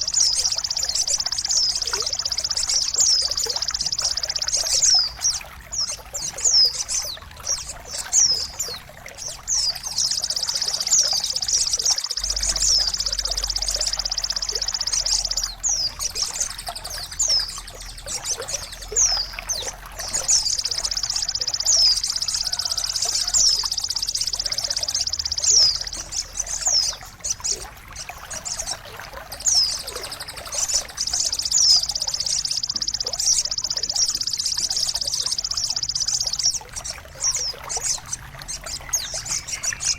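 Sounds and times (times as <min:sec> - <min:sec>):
songbirds chirping: 0:00.0 - 0:39.9
trickling water: 0:00.0 - 0:39.9.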